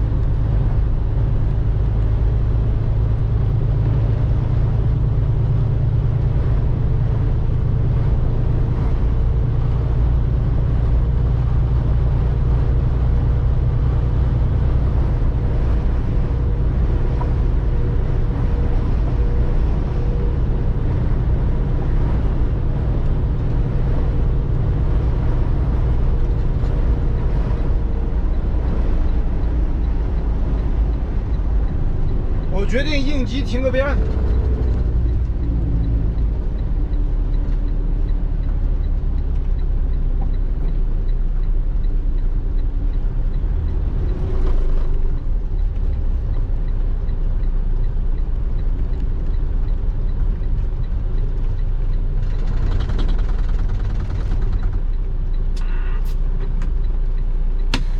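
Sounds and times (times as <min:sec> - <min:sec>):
truck engine and road drone: 0:00.0 - 0:57.9.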